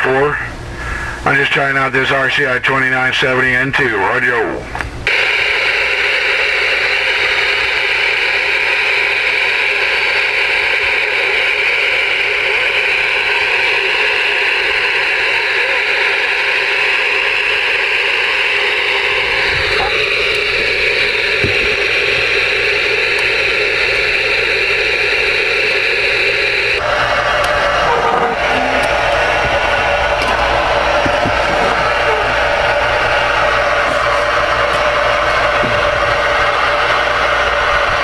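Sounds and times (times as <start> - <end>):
radio static hiss: 0.0 - 37.8.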